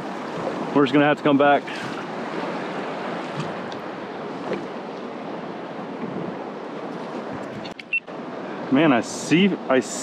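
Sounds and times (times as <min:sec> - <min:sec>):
sea water washing around kayak: 0:00.0 - 0:10.0
wind: 0:00.0 - 0:10.0.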